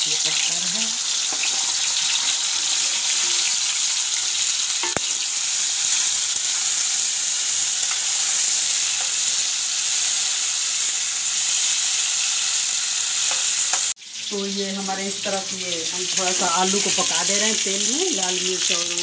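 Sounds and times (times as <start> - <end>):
potatoes sizzling in hot oil: 0.0 - 19.0.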